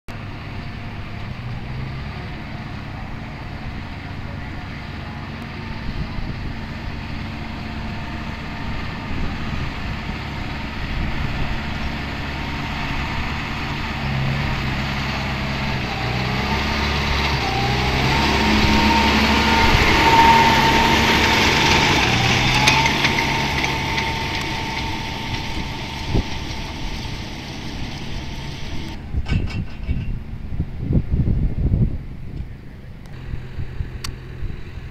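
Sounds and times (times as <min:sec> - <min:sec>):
tractor engine drone: 0:00.1 - 0:34.9
machinery whine: 0:00.2 - 0:30.0.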